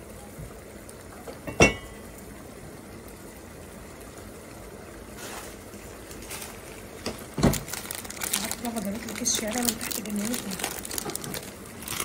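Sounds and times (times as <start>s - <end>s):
fat crackling in pot: 0.0s - 12.0s
gas burner hissing: 0.0s - 12.0s.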